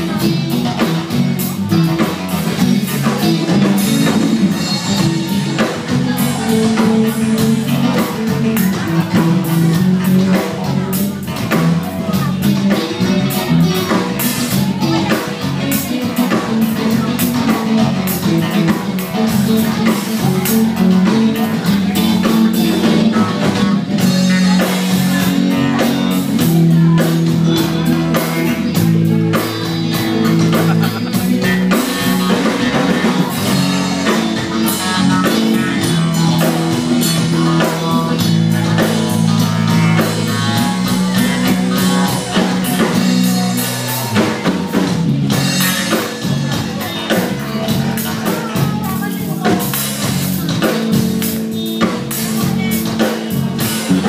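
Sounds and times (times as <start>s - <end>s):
rock music: 0.0s - 54.0s.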